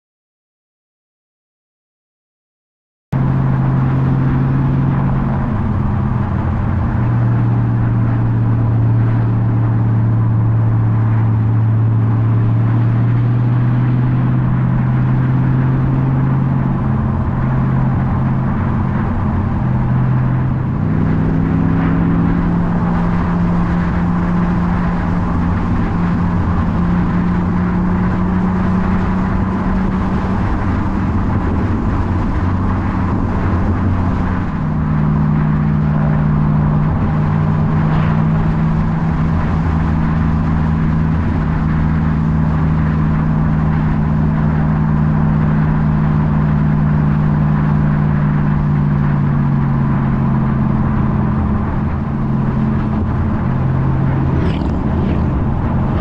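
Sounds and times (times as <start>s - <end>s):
car engine running steadily: 3.1s - 56.0s
road and wind noise: 3.1s - 56.0s.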